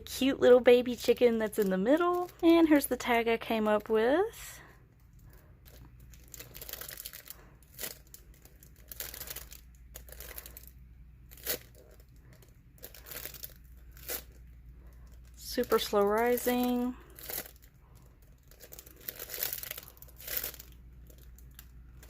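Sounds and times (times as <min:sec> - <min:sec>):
foam toy crinkling and crackling: 0:00.0 - 0:22.0.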